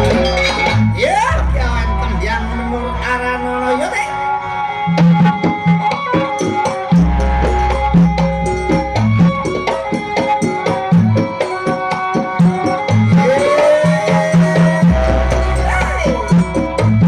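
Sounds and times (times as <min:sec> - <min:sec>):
hand drum rhythm: 0:00.0 - 0:01.6, 0:04.9 - 0:17.0
pitched percussion notes: 0:00.0 - 0:17.0
sliding melody line: 0:00.0 - 0:17.0.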